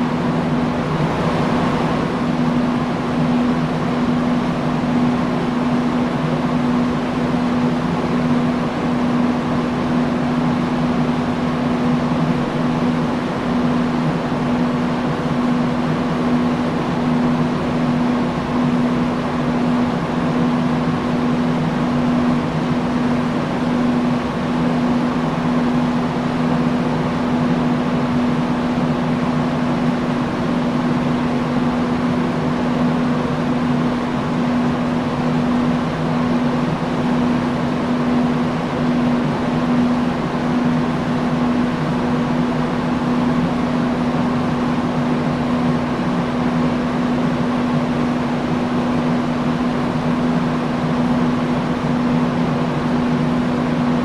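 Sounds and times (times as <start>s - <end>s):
fan air rushing: 0.0s - 54.0s.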